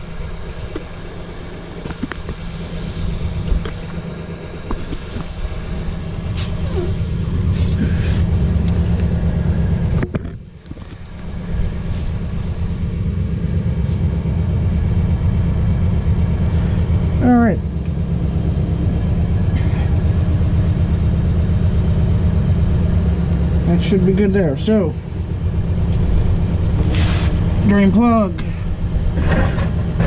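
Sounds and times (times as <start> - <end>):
diesel truck idling: 0.0 - 30.0.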